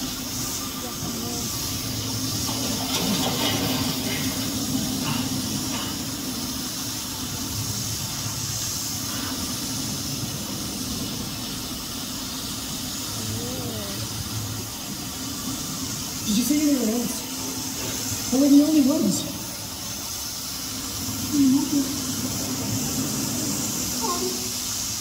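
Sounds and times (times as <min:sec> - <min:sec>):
water spraying hiss: 0:00.0 - 0:25.0.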